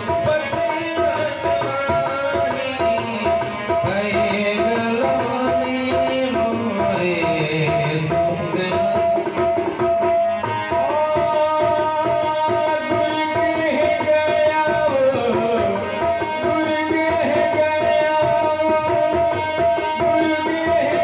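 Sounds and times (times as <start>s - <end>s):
sustained melody line: 0.0s - 21.0s
tabla playing: 0.0s - 21.0s.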